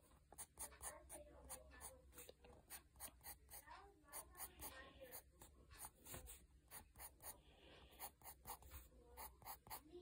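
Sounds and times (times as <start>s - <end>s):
pencil scratching on paper: 0.1s - 10.0s.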